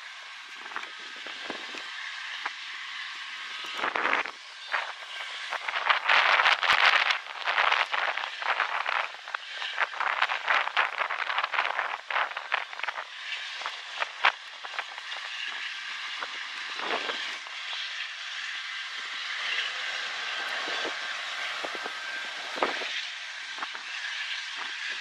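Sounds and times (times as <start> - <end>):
distant freight train rolling: 0.0 - 25.0.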